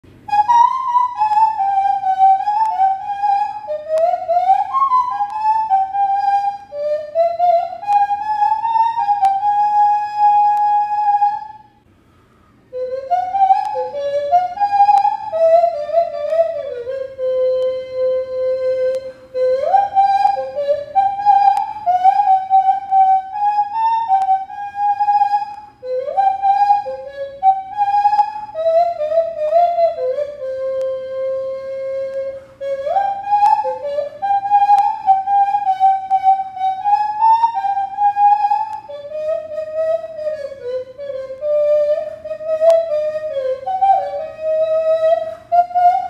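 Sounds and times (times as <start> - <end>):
nose flute melody: 0.1 - 46.0.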